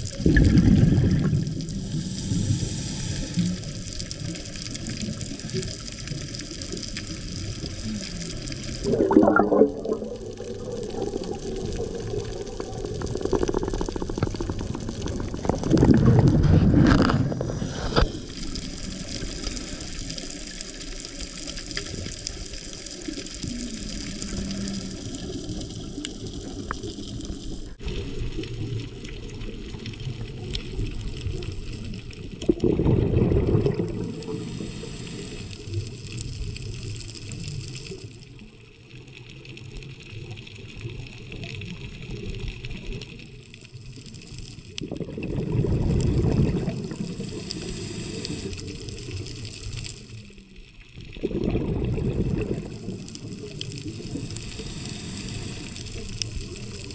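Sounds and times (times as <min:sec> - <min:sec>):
steady underwater hiss: 0:00.0 - 0:15.7, 0:16.4 - 0:32.4, 0:33.0 - 0:56.9
regulator bubbles gushing: 0:00.0 - 0:56.9.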